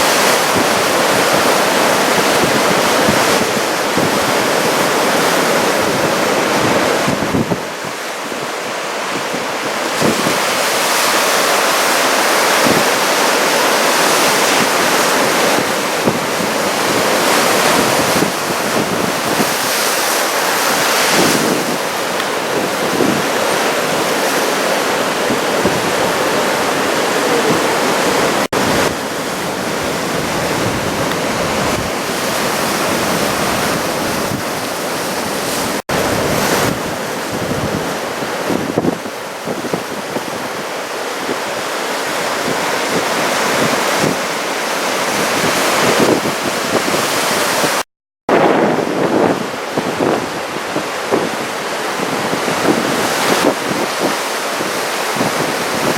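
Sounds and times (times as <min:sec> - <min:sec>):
heavy surf breaking: 0:00.0 - 0:55.9
wind buffeting microphone: 0:00.0 - 0:55.9.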